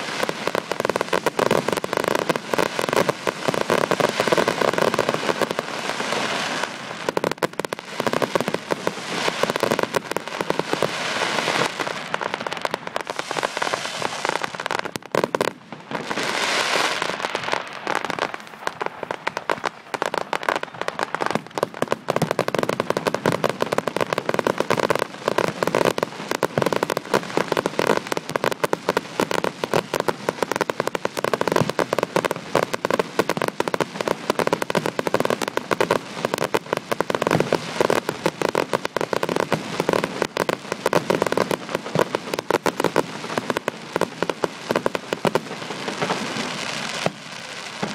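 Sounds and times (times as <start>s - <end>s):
rapid crackling firework bangs: 0.0s - 47.9s.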